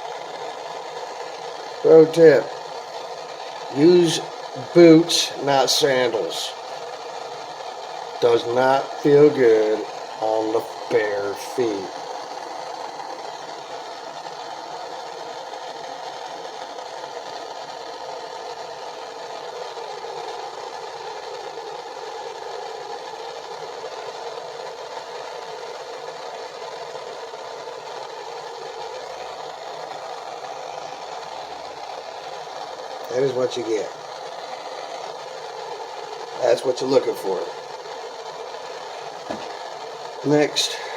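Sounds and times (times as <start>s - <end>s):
torch flame hissing: 0.0s - 40.9s.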